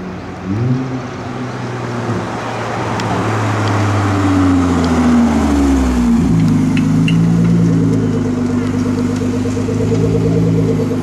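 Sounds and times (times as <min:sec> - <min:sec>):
sports car engine running: 0:00.0 - 0:11.0.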